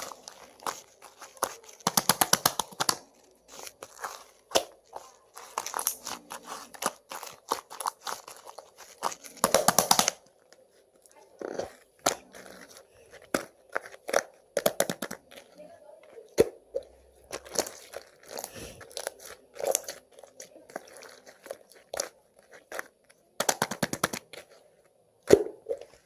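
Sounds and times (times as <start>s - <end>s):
slime kneaded with sticky clicks: 0.0s - 26.0s.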